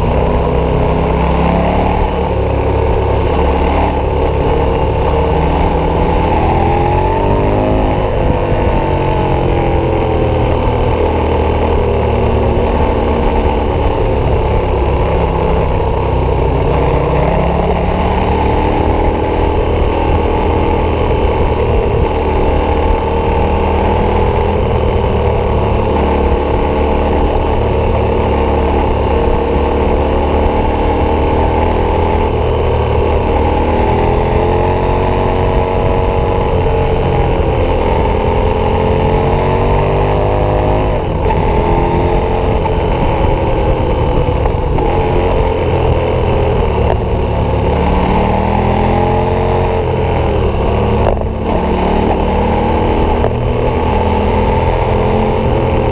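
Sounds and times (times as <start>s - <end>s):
motorcycle engine while riding: 0.0s - 55.9s.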